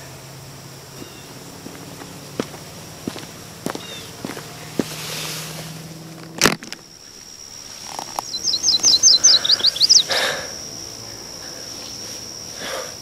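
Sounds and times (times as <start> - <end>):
insect-like whine: 0.0 - 13.0
songbird chirping: 0.6 - 12.1.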